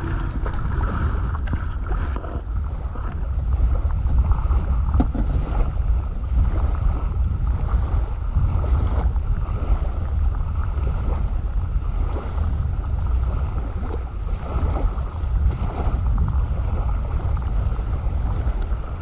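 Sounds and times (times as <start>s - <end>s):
water lapping and splashing: 0.0s - 19.0s
wind buffeting microphone: 0.0s - 19.0s.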